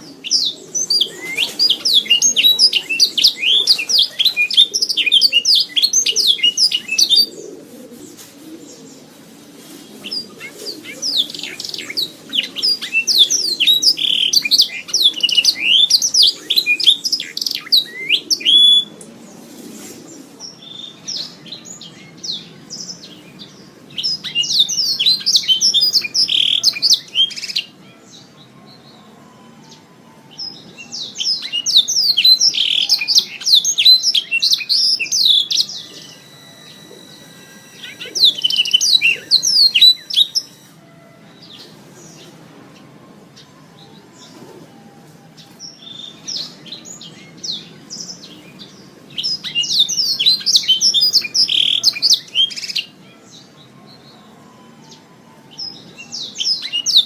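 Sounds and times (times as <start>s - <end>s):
canary singing trills: 0.0s - 19.3s, 20.0s - 57.0s.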